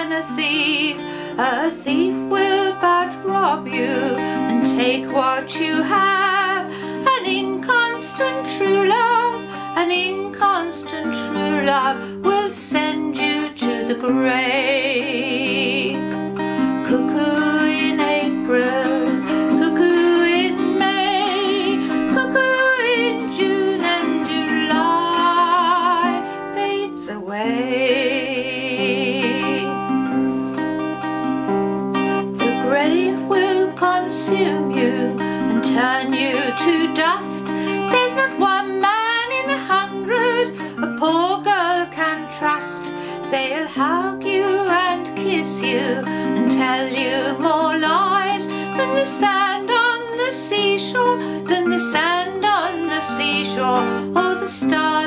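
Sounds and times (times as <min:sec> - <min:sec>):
acoustic guitar: 0:00.0 - 0:55.0
woman singing folk song: 0:00.0 - 0:55.0.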